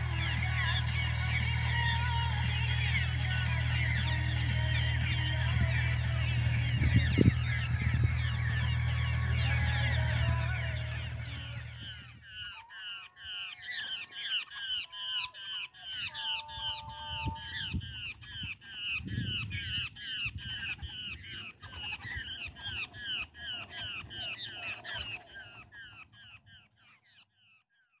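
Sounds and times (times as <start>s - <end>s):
birds harsh chattering calls: 0.0s - 27.5s.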